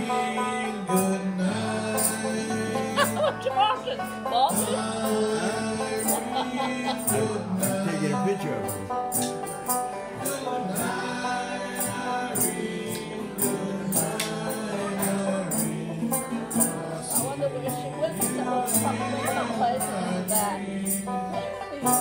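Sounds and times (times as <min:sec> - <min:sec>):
acoustic band playing: 0:00.0 - 0:22.0
strummed banjo: 0:00.0 - 0:22.0
jingling percussion beat: 0:01.8 - 0:11.2, 0:11.8 - 0:22.0.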